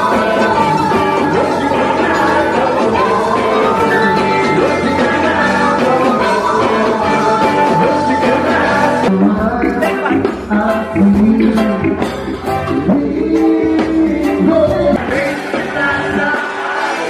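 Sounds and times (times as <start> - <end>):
people singing: 0.0 - 12.2, 12.8 - 17.0
live band playing upbeat music: 0.0 - 17.0.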